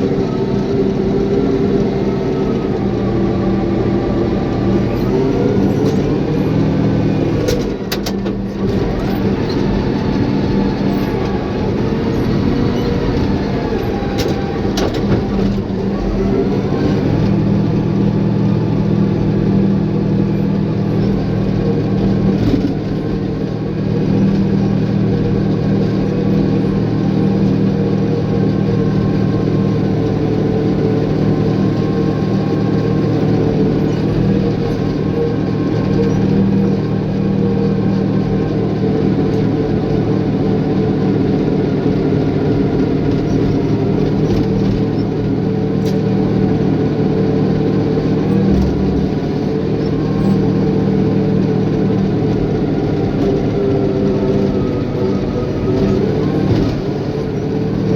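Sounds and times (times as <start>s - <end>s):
bulldozer diesel engine drone: 0.0s - 57.9s.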